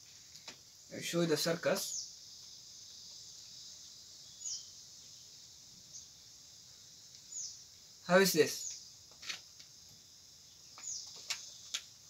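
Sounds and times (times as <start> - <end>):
falling bird chirps: 0.0 - 12.0
insects droning: 0.0 - 12.0.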